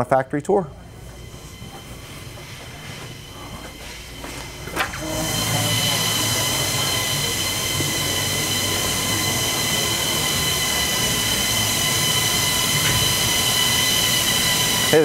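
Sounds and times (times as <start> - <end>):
machine hiss and whine: 0.0 - 15.0.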